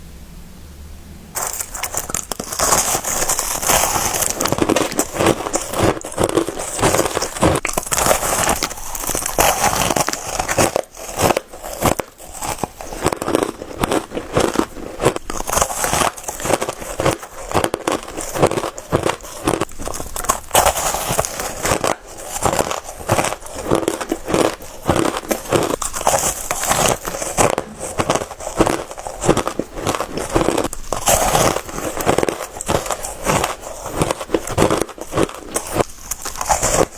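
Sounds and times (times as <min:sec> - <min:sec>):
crushed ice being chewed: 0:01.4 - 0:36.9.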